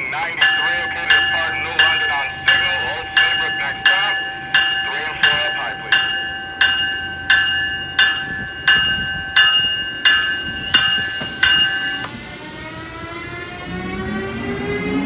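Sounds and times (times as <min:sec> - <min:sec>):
bell ringing: 0:00.0 - 0:12.2
locomotive motors whining: 0:00.0 - 0:15.0.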